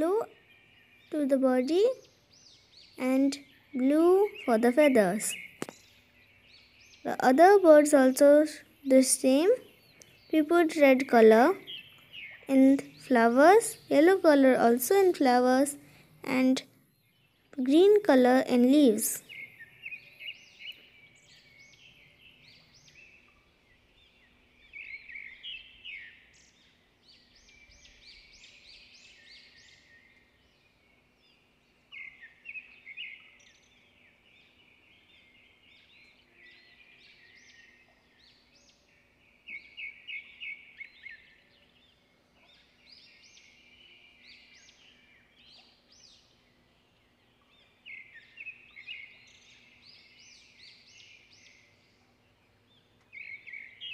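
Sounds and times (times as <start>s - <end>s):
low steady hum: 0.0s - 53.9s
small birds chirping: 0.0s - 53.9s.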